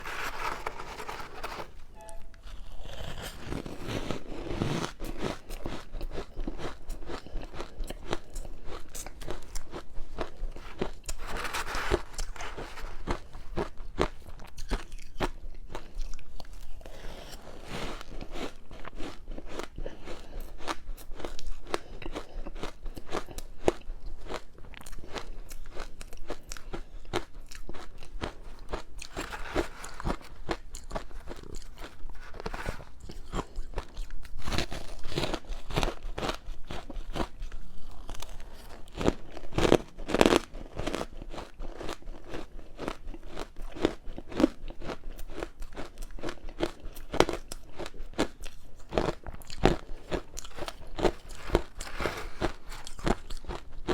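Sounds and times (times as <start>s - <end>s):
crunching and chewing ice: 0.0s - 53.9s.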